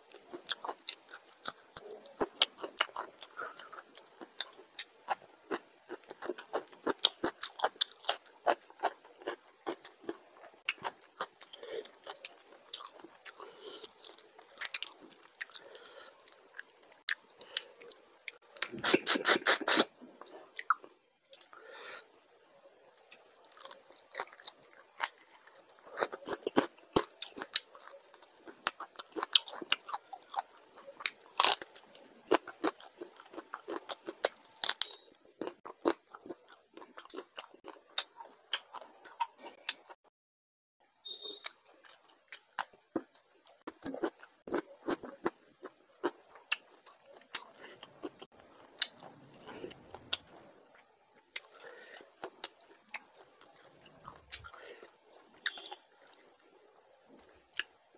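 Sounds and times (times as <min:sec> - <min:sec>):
man chewing crunchy food: 0:00.0 - 0:21.6, 0:23.0 - 0:40.0, 0:41.1 - 0:57.9.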